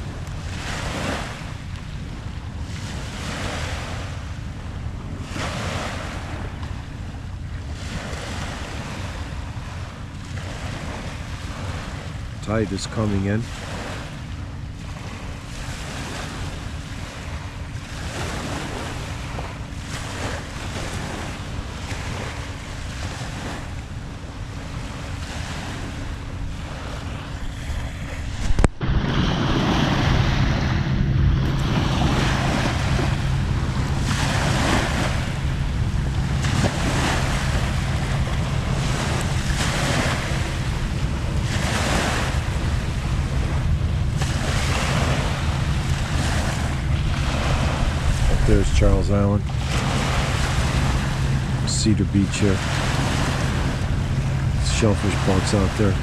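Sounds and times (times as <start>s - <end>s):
steady low hum: 0.0s - 56.0s
waves washing onto shore: 0.0s - 56.0s
wind buffeting microphone: 0.0s - 56.0s.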